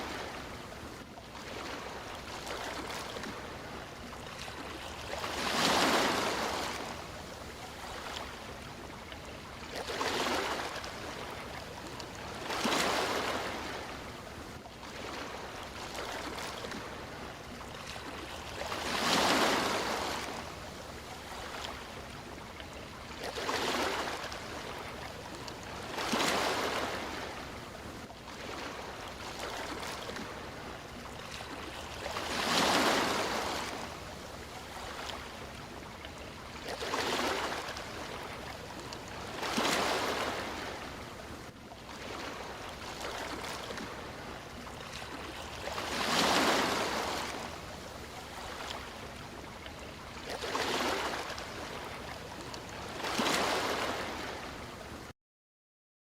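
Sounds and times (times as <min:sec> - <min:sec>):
sea waves breaking: 0:00.0 - 0:55.1.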